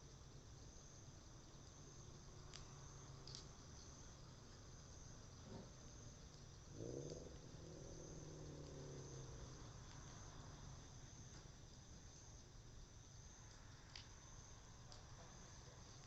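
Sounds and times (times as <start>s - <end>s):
burning wood crackles: 0.0s - 16.0s.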